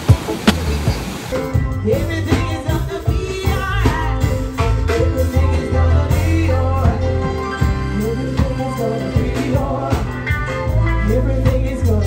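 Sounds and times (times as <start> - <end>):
regular drum beat: 0.0 - 10.4
singing voice: 0.0 - 12.0.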